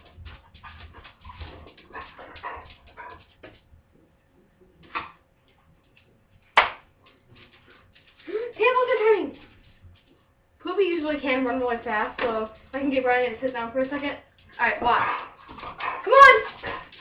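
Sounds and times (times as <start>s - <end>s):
dogs scuffling: 0.0s - 17.0s.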